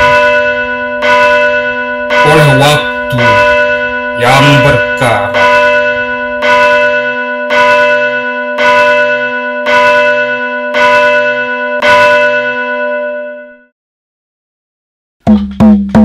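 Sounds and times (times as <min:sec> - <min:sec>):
bell tolling: 0:00.0 - 0:13.7.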